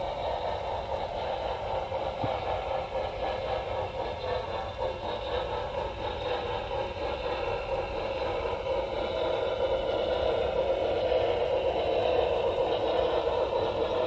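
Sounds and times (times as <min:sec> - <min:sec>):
model train wheels rolling on rails: 0:00.0 - 0:14.0.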